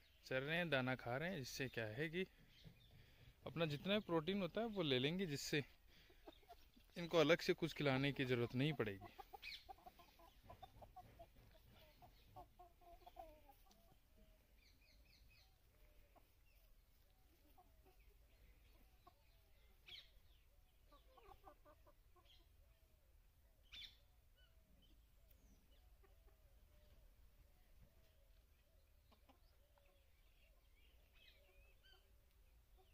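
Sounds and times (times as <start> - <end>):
chickens softly clucking: 0.0 - 32.9
sharp chicken calls: 4.5 - 22.7, 23.6 - 32.9.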